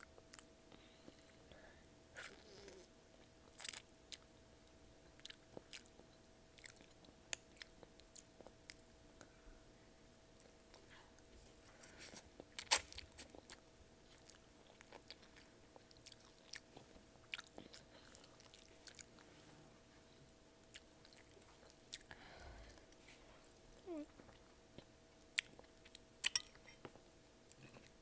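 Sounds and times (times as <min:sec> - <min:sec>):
person chewing and crunching: 0:00.0 - 0:01.3, 0:02.2 - 0:08.8, 0:10.4 - 0:19.3, 0:20.6 - 0:22.8, 0:24.2 - 0:28.0.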